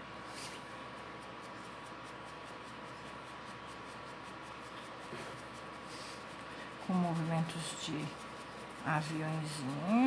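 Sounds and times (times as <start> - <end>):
paintbrush scratching on fabric: 0.0 - 10.0.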